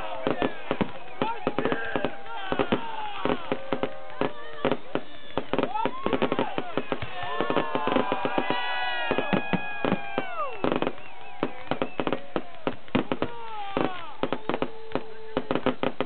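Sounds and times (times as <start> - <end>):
fireworks bangs and crackles: 0.0 - 16.0
whistling fireworks: 0.0 - 16.0.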